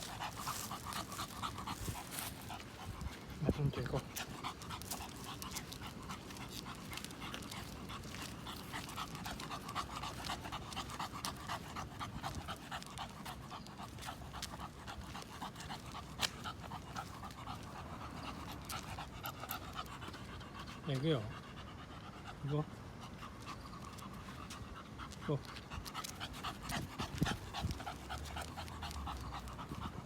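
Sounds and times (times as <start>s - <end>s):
dog panting: 0.0s - 30.0s.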